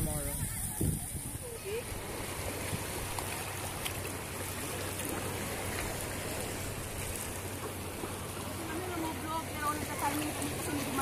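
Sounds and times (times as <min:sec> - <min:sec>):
seawater lapping at shoreline: 0:00.0 - 0:11.0.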